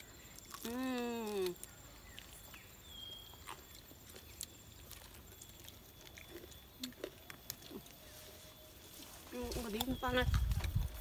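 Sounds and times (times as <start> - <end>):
people eating noodles: 0.0 - 11.0.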